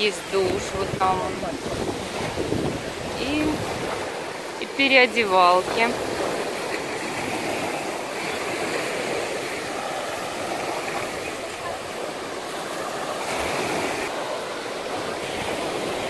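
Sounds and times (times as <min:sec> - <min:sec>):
waves on pebble beach: 0:00.0 - 0:16.0.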